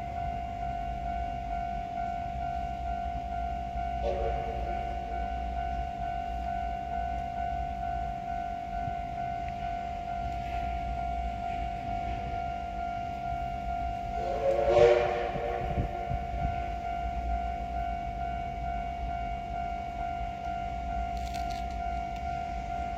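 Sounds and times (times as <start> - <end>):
electric train running: 0.0 - 22.9.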